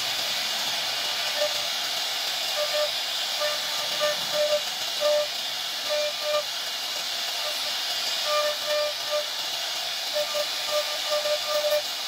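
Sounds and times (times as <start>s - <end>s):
router spindle hissing: 0.0s - 12.0s
router bit buzzing into wood: 0.9s - 12.0s.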